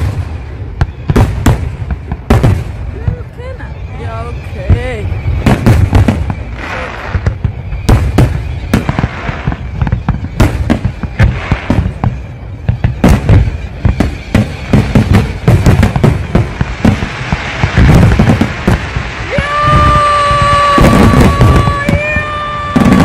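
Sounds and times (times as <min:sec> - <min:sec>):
fireworks bursts and bangs: 0:00.0 - 0:23.0
fireworks crackling: 0:00.0 - 0:23.0.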